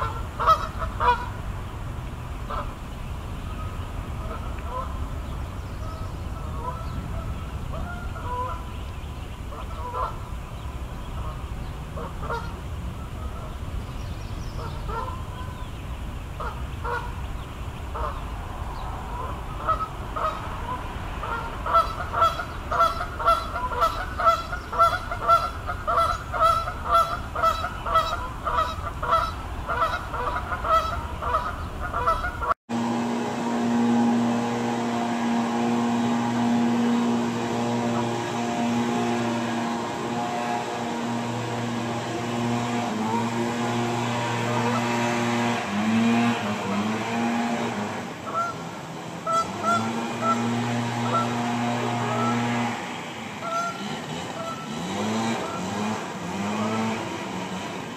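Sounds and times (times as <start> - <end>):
waterfowl honking: 0.0 - 1.8, 2.4 - 18.4, 19.1 - 32.6, 33.5 - 52.8, 53.4 - 57.1.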